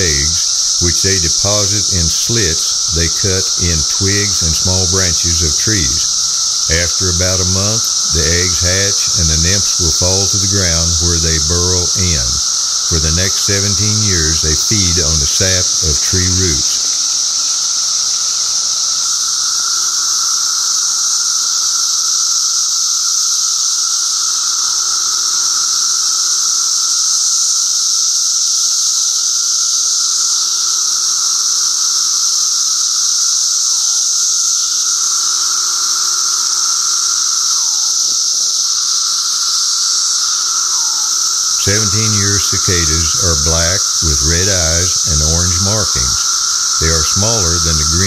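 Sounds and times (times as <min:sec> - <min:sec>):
cicadas singing: 0:00.0 - 0:48.0.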